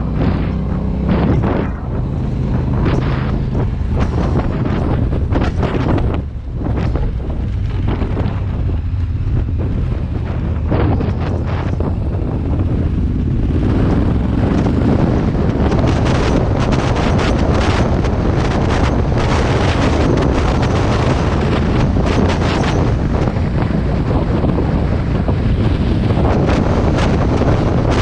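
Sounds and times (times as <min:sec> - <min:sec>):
motorcycle engine rumble: 0:00.0 - 0:28.0
wind buffeting the microphone: 0:00.0 - 0:28.0.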